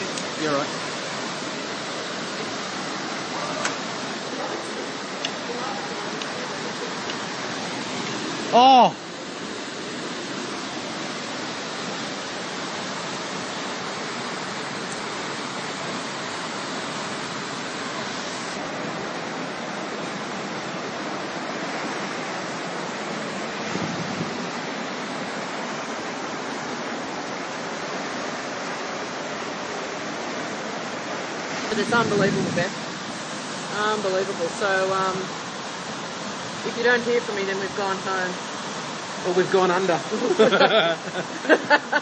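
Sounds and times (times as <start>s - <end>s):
floodwater rushing: 0.0s - 42.0s.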